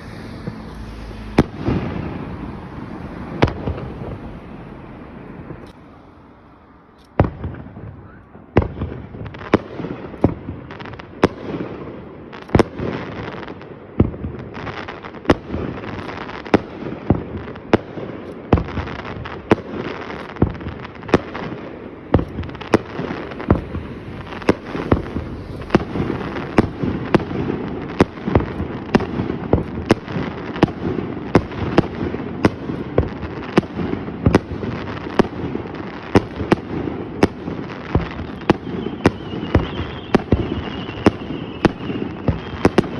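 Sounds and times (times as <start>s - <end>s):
fireworks bangs: 0.0s - 42.9s
fireworks crackling and rumbling: 0.0s - 42.9s.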